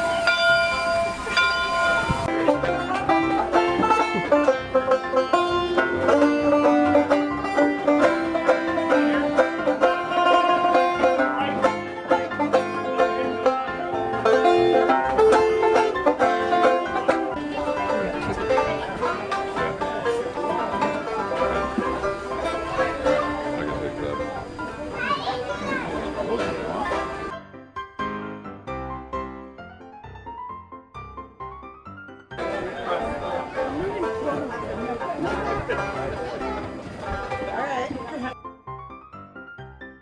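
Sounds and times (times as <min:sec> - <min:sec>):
banjo music: 0:00.0 - 0:29.9, 0:32.4 - 0:38.6.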